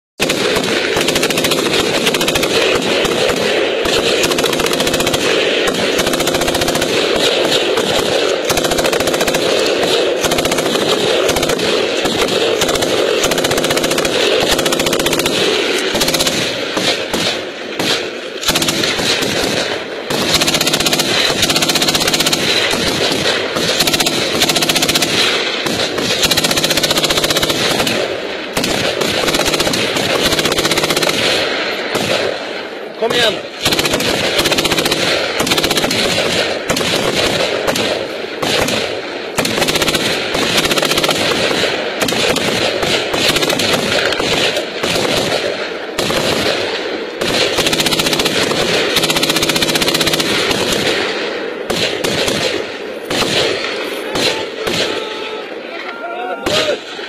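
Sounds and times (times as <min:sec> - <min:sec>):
machine gun automatic fire: 0:00.2 - 0:55.4.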